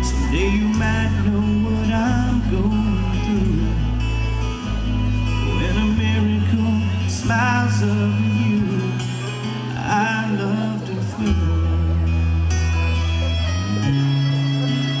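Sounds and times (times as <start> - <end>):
man singing: 0.0 - 12.6
acoustic guitar: 0.0 - 15.0
bass line: 0.0 - 15.0.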